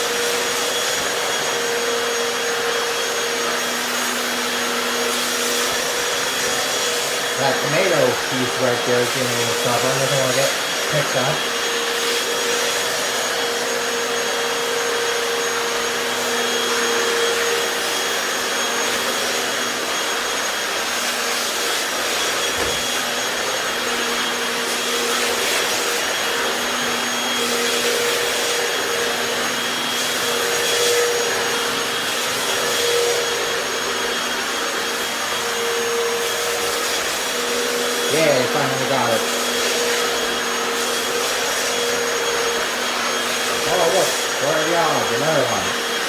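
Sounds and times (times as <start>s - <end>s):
floor cleaner suction motor humming: 0.0s - 46.0s.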